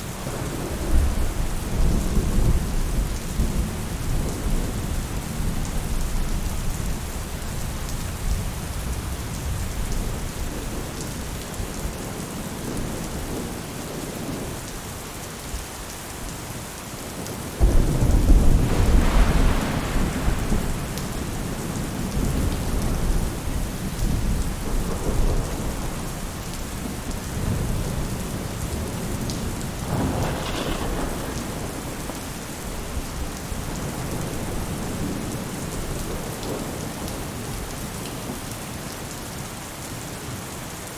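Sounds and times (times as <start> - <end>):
rain falling on a roof: 0.0 - 40.9
thunder rumbling: 0.2 - 14.7, 17.2 - 37.7.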